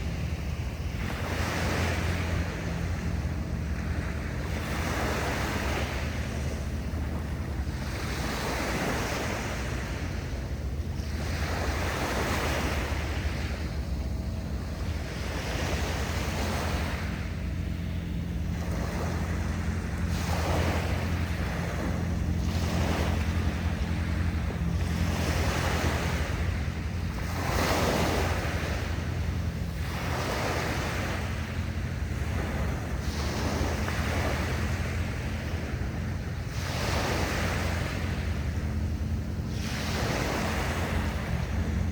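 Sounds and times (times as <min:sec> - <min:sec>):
sea waves washing in: 0:00.0 - 0:41.9.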